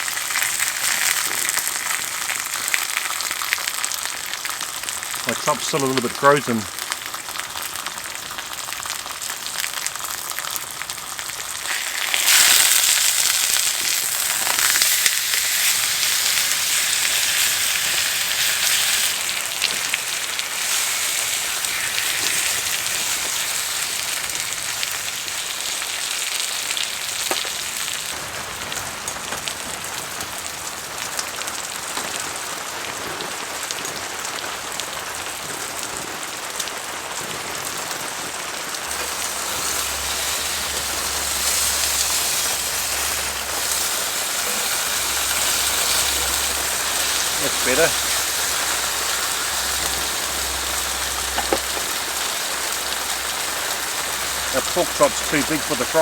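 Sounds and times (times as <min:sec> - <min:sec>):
meat sizzling in a frying pan: 0:00.0 - 0:56.0
rain pattering on a tarp: 0:00.0 - 0:56.0.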